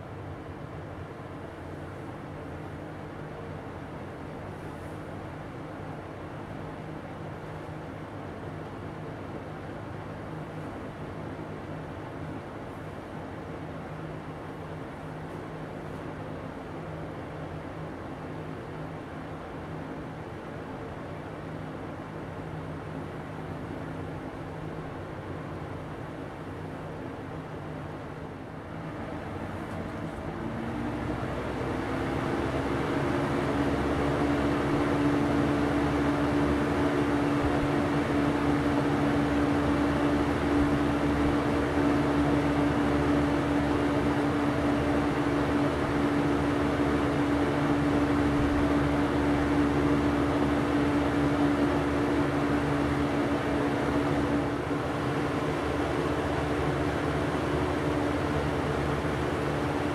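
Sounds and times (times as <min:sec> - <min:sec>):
box fan running: 0:00.0 - 0:59.9.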